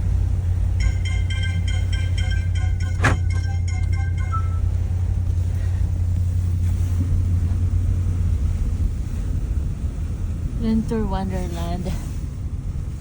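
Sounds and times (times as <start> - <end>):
car road rumble from inside: 0.0 - 13.0.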